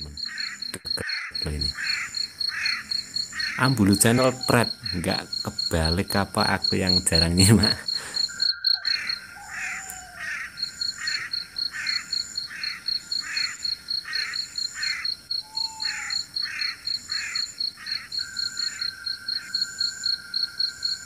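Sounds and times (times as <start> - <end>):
crickets chirping: 0.0 - 21.0
slow pulsing insect call: 0.0 - 21.0.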